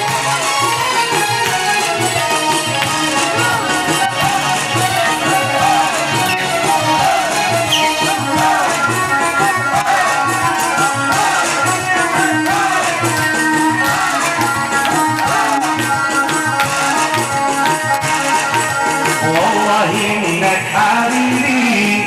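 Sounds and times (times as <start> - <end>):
hand drums beating: 0.0 - 20.5.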